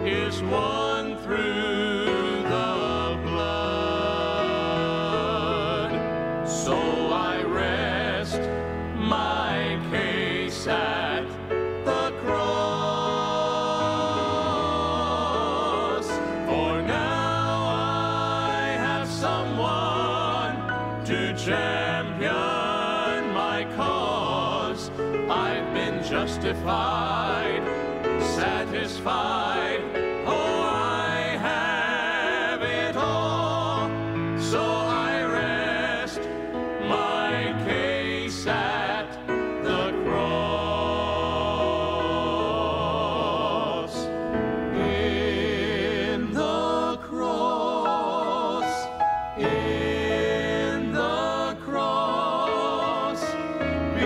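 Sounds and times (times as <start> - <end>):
slow sacred music: 0.0 - 54.0.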